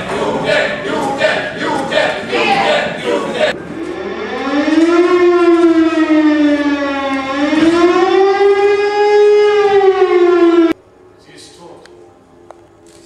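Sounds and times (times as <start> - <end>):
air-raid siren wailing: 0.0 - 13.0.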